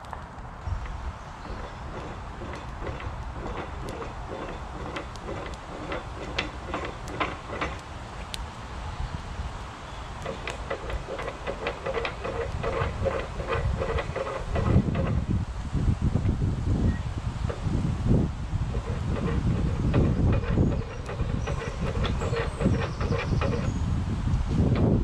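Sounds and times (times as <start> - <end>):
metal creaking and knocking: 0.7 - 8.3, 10.1 - 15.4, 16.1 - 25.0.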